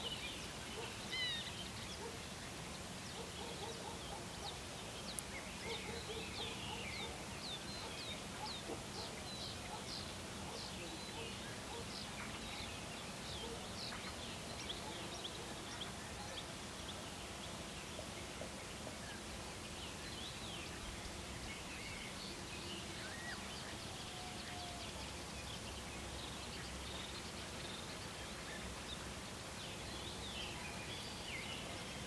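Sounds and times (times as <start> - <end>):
outdoor background hiss: 0.0 - 32.0
songbirds chirping: 0.0 - 32.0.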